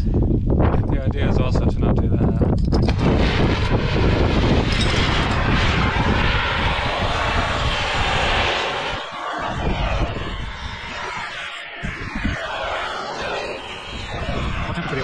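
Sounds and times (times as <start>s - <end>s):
torch flame roaring hiss: 2.9s - 15.0s.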